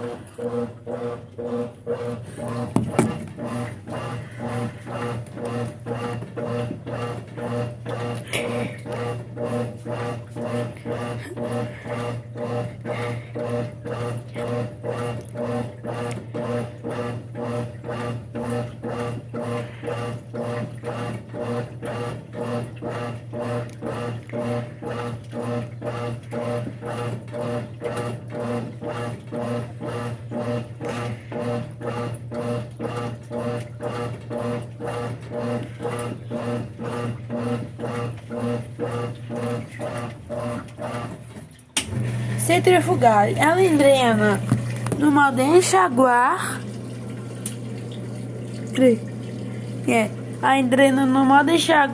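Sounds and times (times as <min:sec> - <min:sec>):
washing machine churning: 0:00.0 - 0:51.9.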